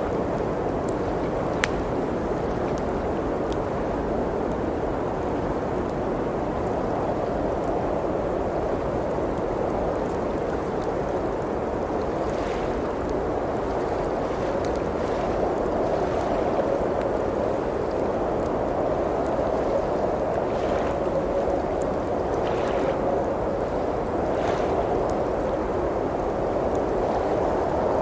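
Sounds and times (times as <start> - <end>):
blizzard wind blowing: 0.0 - 28.0
wood fire crackling: 0.0 - 28.0.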